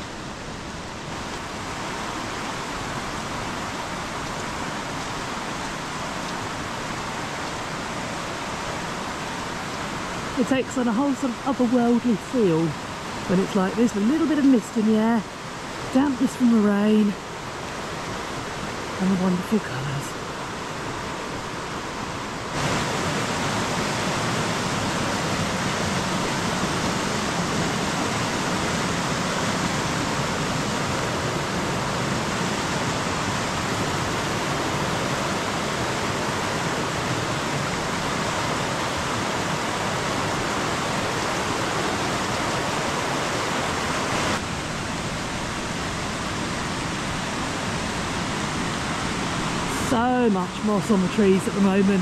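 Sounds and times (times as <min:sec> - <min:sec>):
fast-flowing river water: 0:00.0 - 0:52.0.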